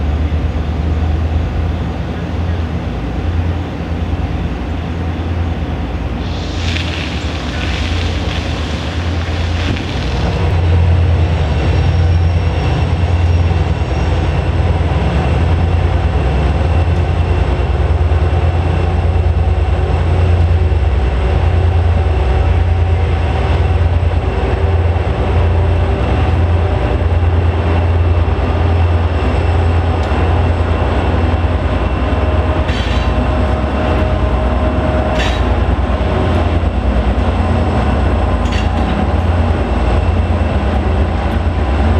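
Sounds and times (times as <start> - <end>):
diesel locomotive engine rumble: 0.0 - 41.9.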